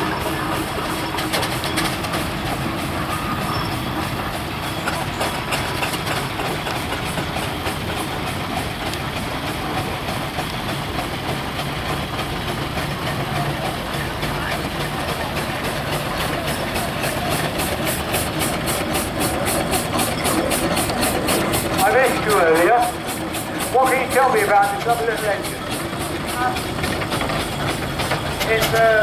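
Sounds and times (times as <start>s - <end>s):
steam traction engine rumbling: 0.0s - 29.0s.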